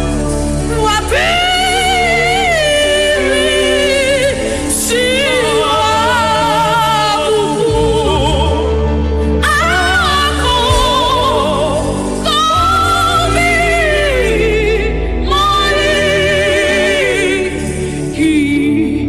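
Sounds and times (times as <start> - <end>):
low sustained accompaniment: 0.0 - 19.0
solo voice singing gospel: 0.0 - 19.0.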